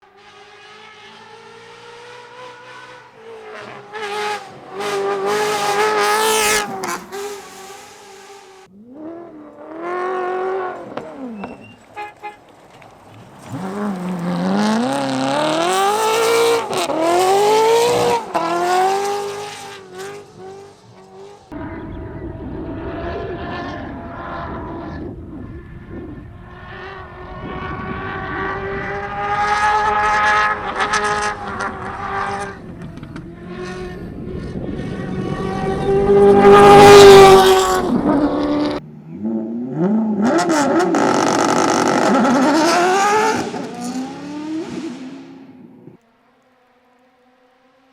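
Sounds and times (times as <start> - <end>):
rally car engine accelerating: 0.0 - 46.0.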